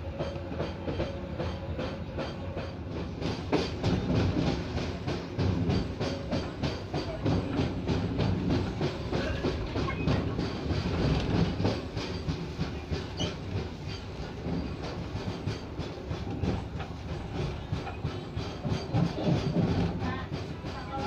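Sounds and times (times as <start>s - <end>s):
train coach rumbling: 0.0s - 21.0s.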